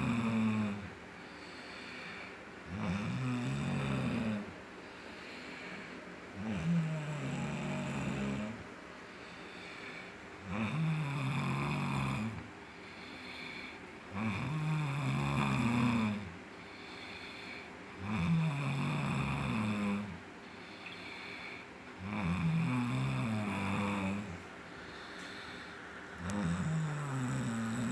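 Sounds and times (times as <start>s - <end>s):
man snoring: 0.0s - 0.9s, 1.5s - 20.2s, 20.8s - 27.9s
quiet breathing: 0.0s - 27.9s.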